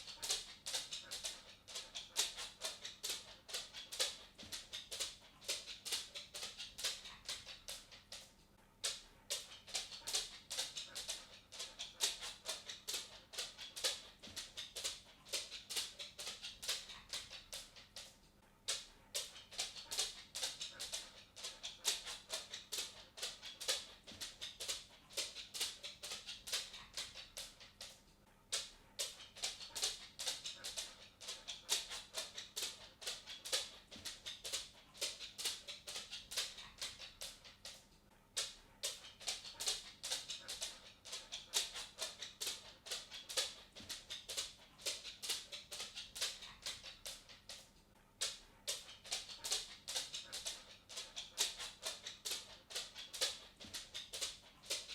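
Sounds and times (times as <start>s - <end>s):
cat footsteps clicking: 0.0s - 54.9s.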